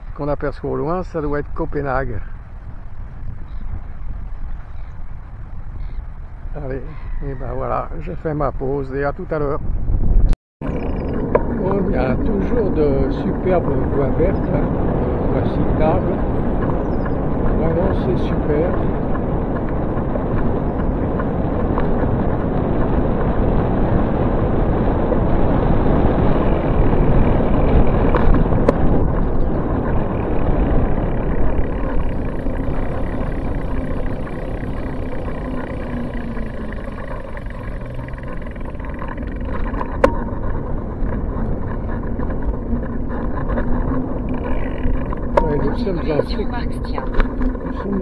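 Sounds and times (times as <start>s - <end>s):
bicycle tyre and road noise: 0.0s - 48.0s.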